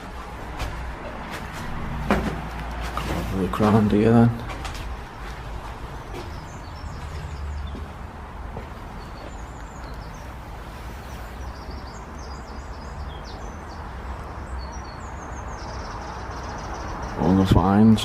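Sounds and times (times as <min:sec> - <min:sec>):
small birds chirping: 0:02.6 - 0:18.0.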